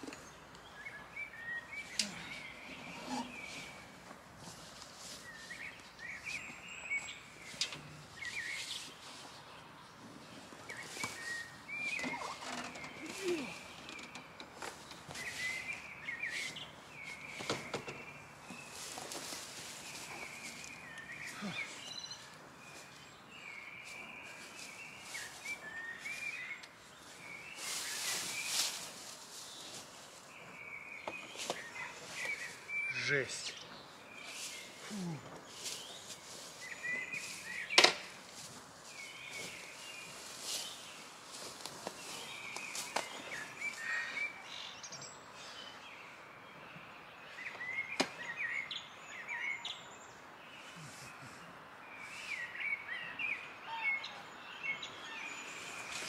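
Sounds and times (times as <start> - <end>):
scuffs and rustles on forest floor: 0.0 - 44.9, 54.7 - 56.0
faint steady hiss: 0.0 - 48.2
small birds singing: 0.0 - 56.0.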